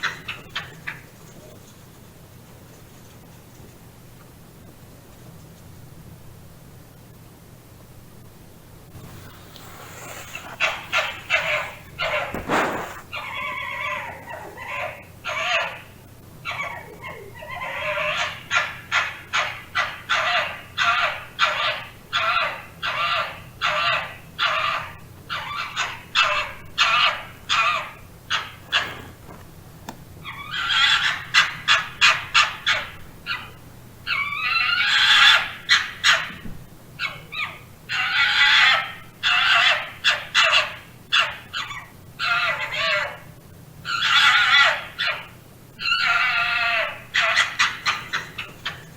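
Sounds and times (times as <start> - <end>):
fox calling: 0.0 - 1.7, 9.0 - 29.4, 30.2 - 48.9.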